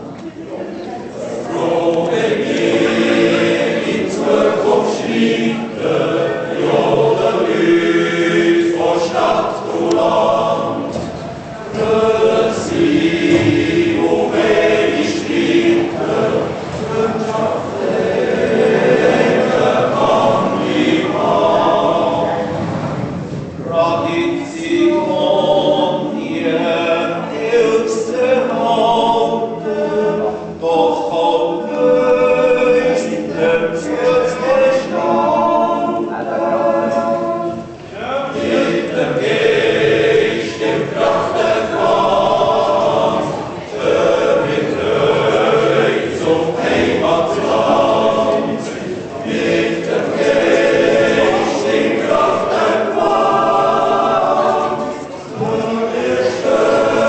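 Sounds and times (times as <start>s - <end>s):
choir singing a cappella: 0.8s - 57.0s.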